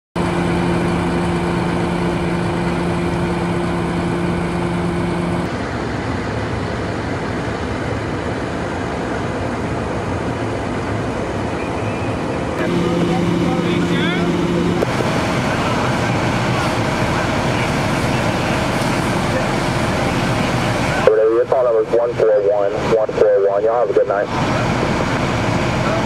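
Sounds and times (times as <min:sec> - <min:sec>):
diesel engine hum: 0:00.2 - 0:26.0.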